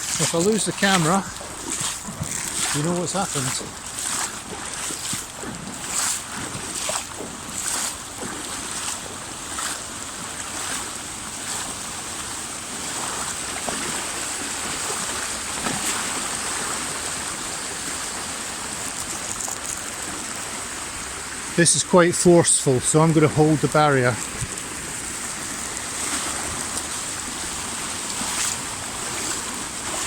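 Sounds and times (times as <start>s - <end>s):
feet splashing through water: 0.0s - 30.0s
floodwater rushing: 0.0s - 30.0s.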